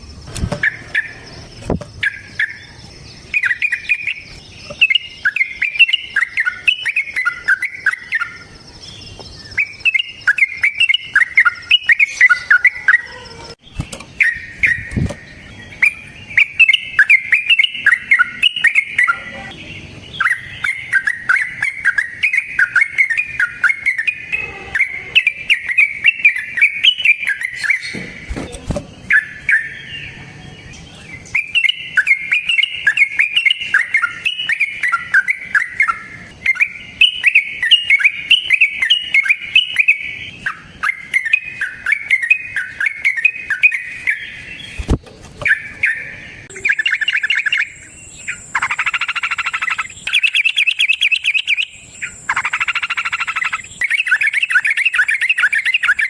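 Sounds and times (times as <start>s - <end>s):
buzzy trilling call: 0.0s - 13.6s, 14.2s - 28.0s, 31.2s - 44.5s, 45.5s - 56.0s
bird chattering song: 0.0s - 56.0s.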